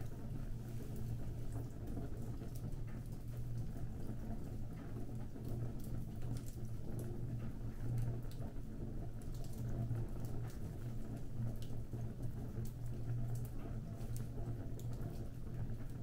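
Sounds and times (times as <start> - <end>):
low fire rumble: 0.0 - 16.0.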